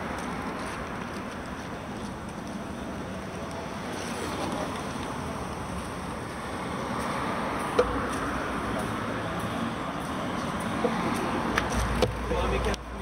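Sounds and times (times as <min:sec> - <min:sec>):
bicycle tyre and road noise: 0:00.0 - 0:13.0.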